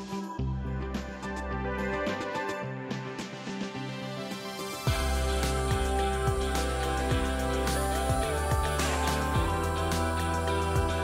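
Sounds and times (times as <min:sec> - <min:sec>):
instrumental music with low beat: 0:00.0 - 0:11.0.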